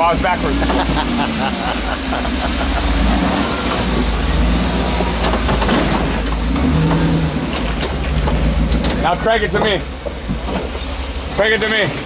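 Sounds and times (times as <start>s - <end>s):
engine running at low revs: 0.0s - 11.6s.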